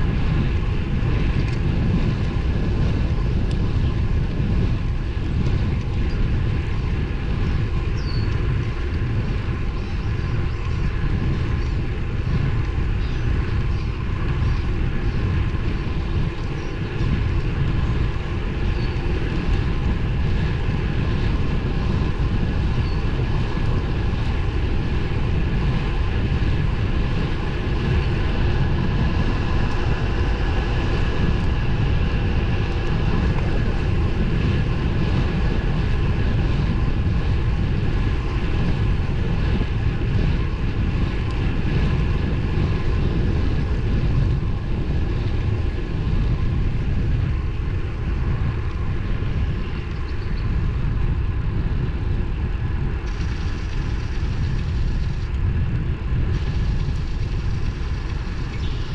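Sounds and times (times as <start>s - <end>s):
bike road noise rumble: 0.0s - 58.9s
faint steady whine: 0.0s - 58.9s
wind rush on microphone: 0.0s - 58.9s.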